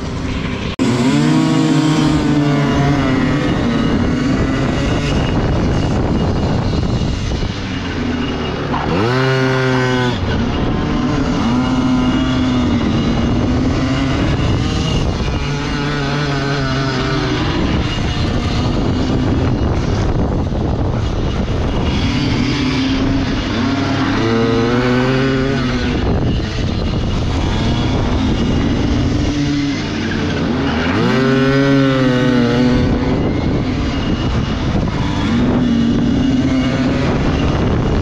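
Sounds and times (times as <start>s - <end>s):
motorbike engine revving: 0.0s - 38.0s
steady rushing noise: 0.0s - 38.0s.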